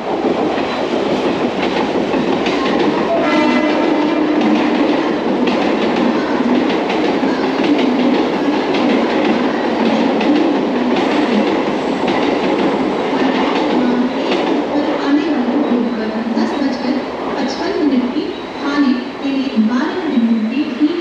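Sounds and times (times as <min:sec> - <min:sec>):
clickety-clack over rail joints: 0:00.0 - 0:16.8
train wheels rumbling: 0:00.0 - 0:21.0.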